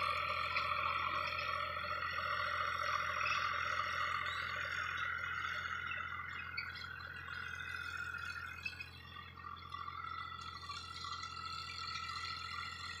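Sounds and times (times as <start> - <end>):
tractor engine hum: 0.0 - 13.0.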